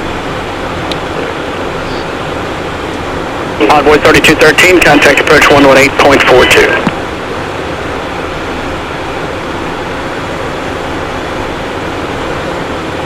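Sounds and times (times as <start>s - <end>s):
jet cockpit airflow and engine hum: 0.0s - 13.0s.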